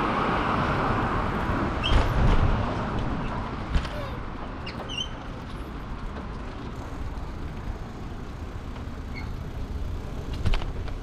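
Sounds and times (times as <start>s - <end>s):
tyres rolling on pavement: 0.0s - 11.0s.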